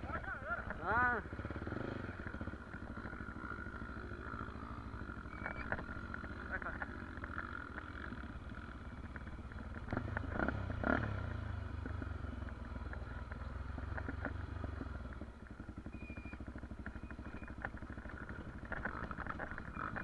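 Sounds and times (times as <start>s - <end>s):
motorcycle engine revving and idling: 0.0s - 20.0s.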